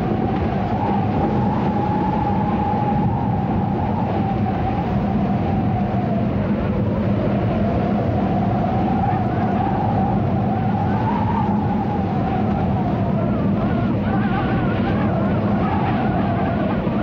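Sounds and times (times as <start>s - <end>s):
howling desert wind: 0.0s - 17.0s.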